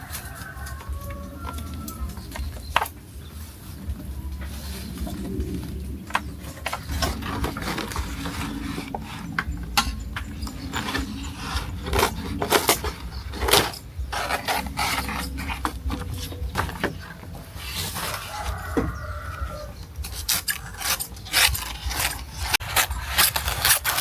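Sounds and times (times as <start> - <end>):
scraping: 0.0 - 24.0.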